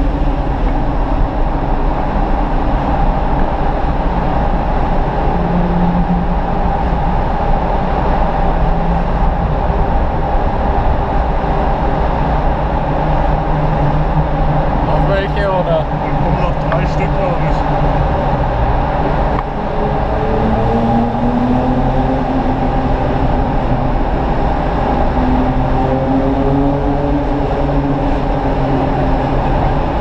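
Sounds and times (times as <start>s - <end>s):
car engine drone from inside cabin: 0.0s - 30.0s
road and tyre noise: 0.0s - 30.0s.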